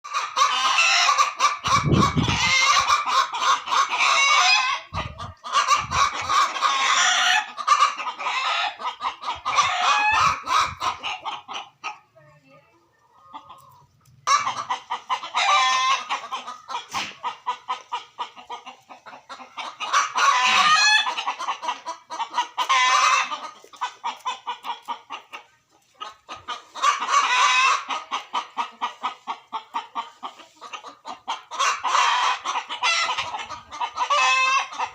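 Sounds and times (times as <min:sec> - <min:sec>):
loud chicken calls: 0:00.0 - 0:12.0, 0:13.1 - 0:34.9
chickens clucking: 0:00.0 - 0:34.9.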